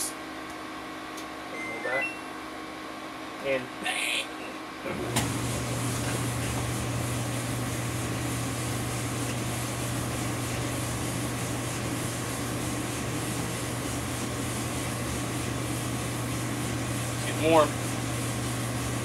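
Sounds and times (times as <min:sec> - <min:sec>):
clothes dryer running: 0:00.0 - 0:03.6, 0:04.5 - 0:19.0.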